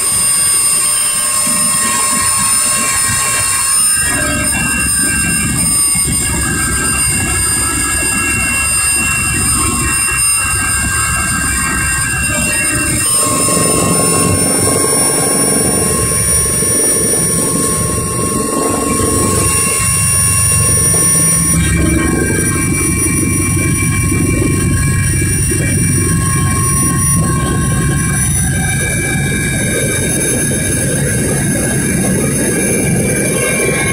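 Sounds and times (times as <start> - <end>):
helicopter rotor and engine drone: 0.0 - 33.9
high steady whines: 0.0 - 33.9.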